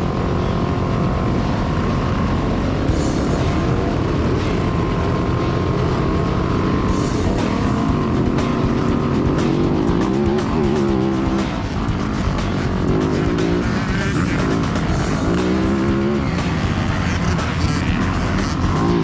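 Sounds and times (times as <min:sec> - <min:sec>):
dirt bike engines revving: 0:02.0 - 0:19.0
background music: 0:02.9 - 0:19.0.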